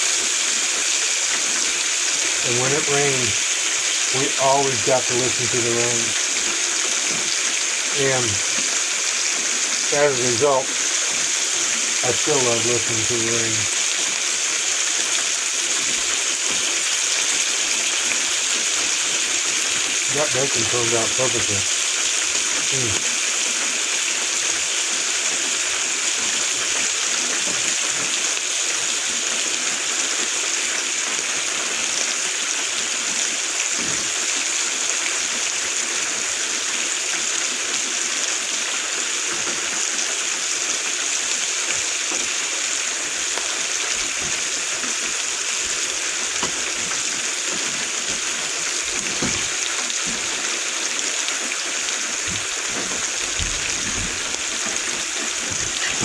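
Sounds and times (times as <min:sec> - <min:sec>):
rain on a roof: 0:00.0 - 0:56.0.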